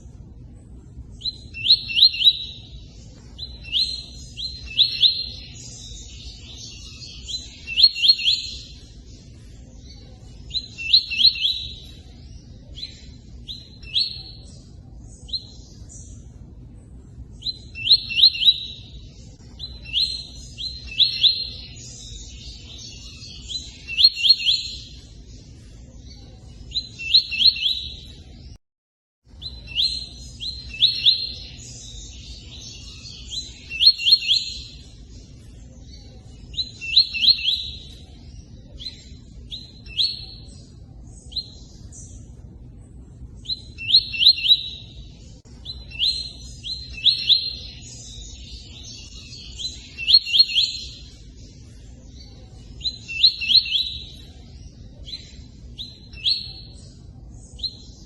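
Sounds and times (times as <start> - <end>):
bird singing fast repeated notes: 0.0 - 28.6, 29.3 - 58.0.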